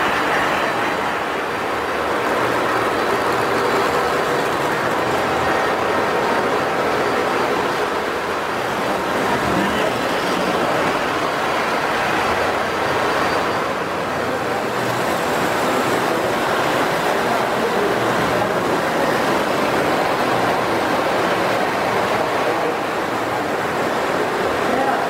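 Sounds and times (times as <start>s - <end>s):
toy trains rumbling on track: 0.0s - 25.0s.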